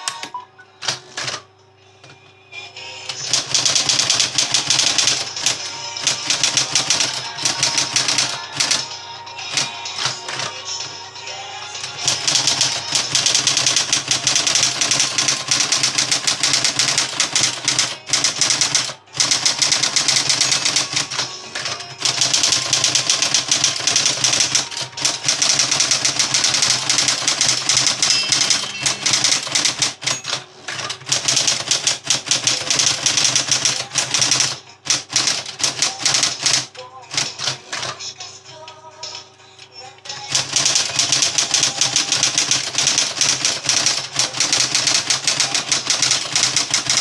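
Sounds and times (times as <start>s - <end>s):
electric typewriter typing: 0.0s - 2.2s, 3.1s - 10.9s, 11.8s - 38.7s, 40.0s - 47.0s.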